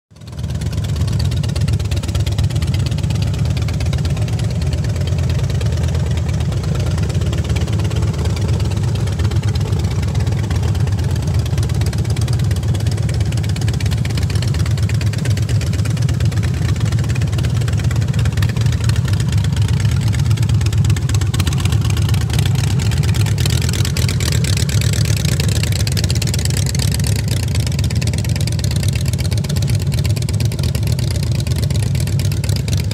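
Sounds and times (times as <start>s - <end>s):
motorcycle engine idling: 0.2s - 32.9s.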